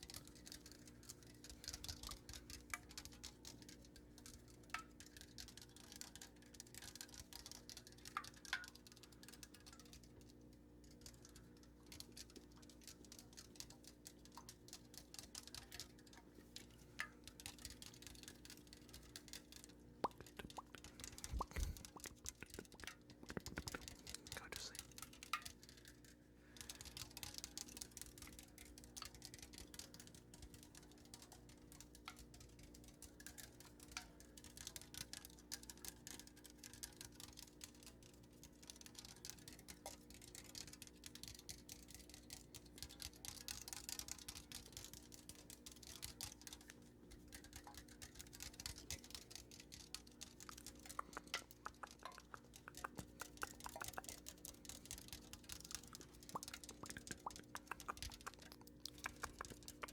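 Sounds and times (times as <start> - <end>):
faint steady hum: 0.0 - 59.9
light rapid clicks and crackles: 0.0 - 59.9.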